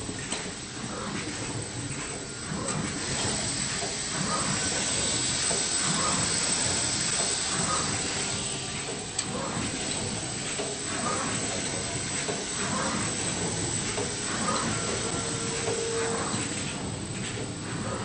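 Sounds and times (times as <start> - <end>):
machine hissing: 0.8 - 17.0.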